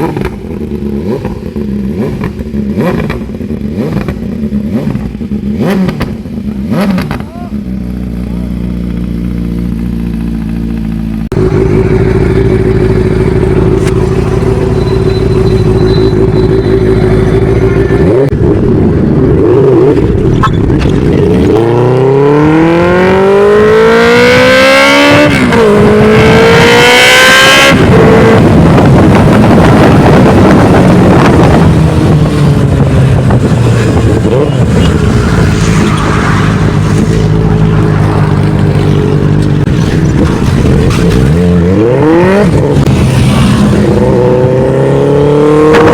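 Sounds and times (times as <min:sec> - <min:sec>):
motorcycle engines running: 0:00.0 - 0:26.8, 0:27.6 - 0:45.9
motorcycle accelerating hard: 0:00.0 - 0:45.9.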